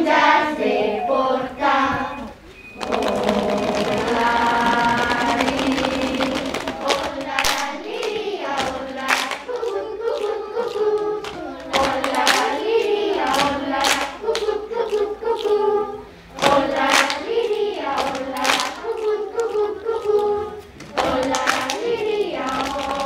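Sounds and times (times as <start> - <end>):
children's choir singing: 0.0 - 23.0
hand claps: 2.8 - 15.7, 16.4 - 23.0.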